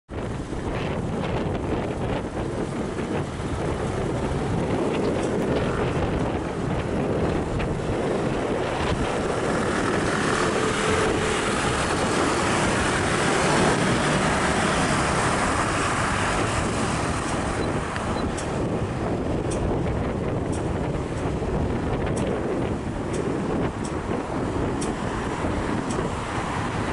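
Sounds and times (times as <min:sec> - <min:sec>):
wind noise on microphone: 0:00.0 - 0:26.9
passing street traffic: 0:00.1 - 0:26.9.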